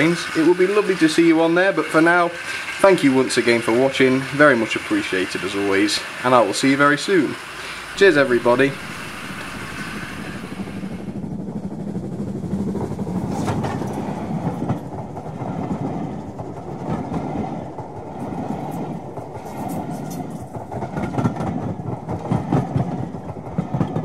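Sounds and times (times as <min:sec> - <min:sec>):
train coaches rumbling: 0:00.0 - 0:24.0
wheel clatter over rails: 0:00.0 - 0:24.0.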